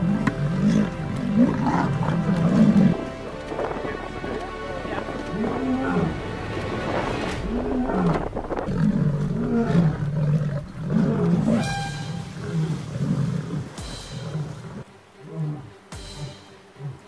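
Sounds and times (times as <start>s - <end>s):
lions growling: 0.0s - 17.0s.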